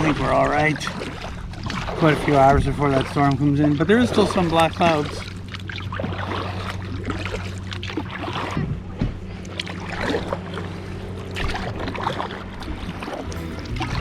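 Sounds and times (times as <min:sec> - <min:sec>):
kayak paddle splashing in water: 0:00.0 - 0:14.0
steady low hum: 0:00.1 - 0:14.0.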